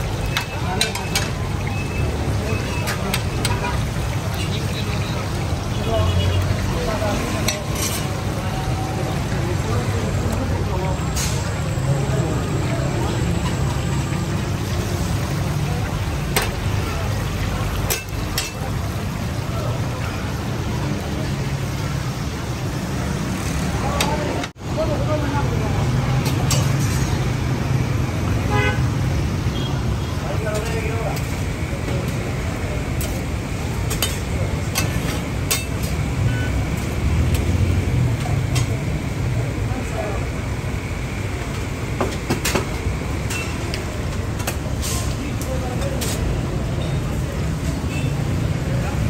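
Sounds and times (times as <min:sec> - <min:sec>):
kebabs sizzling in hot oil: 0:00.0 - 0:49.0
road traffic rumble: 0:00.0 - 0:49.0.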